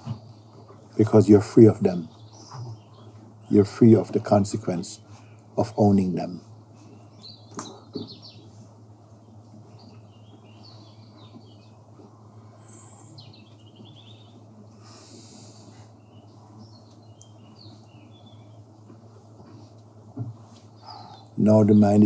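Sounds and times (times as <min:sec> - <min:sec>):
low steady hum: 0:00.0 - 0:22.0
small birds chirping: 0:00.0 - 0:22.0.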